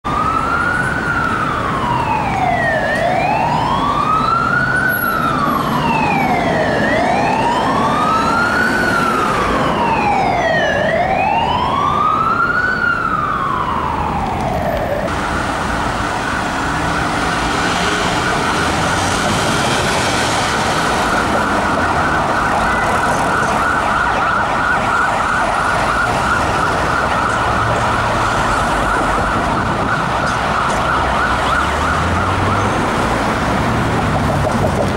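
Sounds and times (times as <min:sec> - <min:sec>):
fire engine siren: 0:00.0 - 0:34.9
traffic noise: 0:00.0 - 0:34.9.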